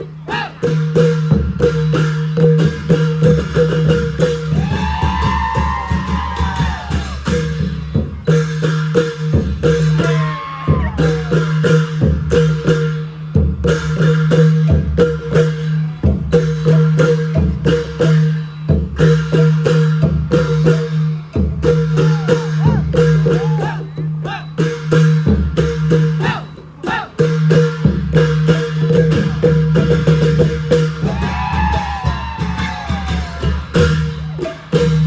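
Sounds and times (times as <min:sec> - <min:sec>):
deep drum beat: 0:00.8 - 0:24.4, 0:25.0 - 0:35.0.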